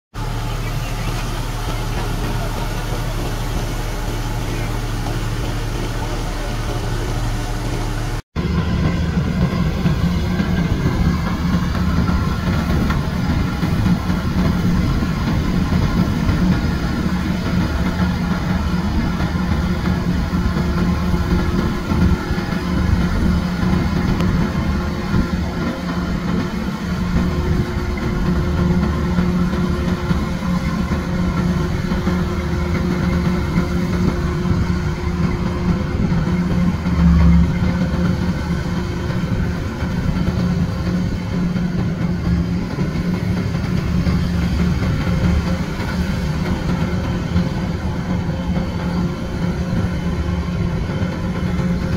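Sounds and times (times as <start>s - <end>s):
combine harvester engine drone: 0.1s - 51.9s.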